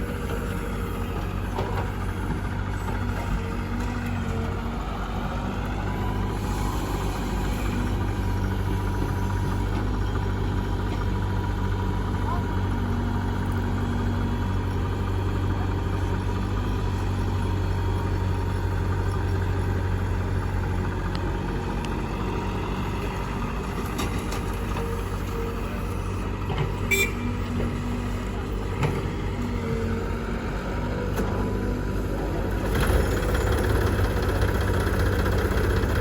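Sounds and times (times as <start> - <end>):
diesel engine at low revs: 0.0 - 36.0.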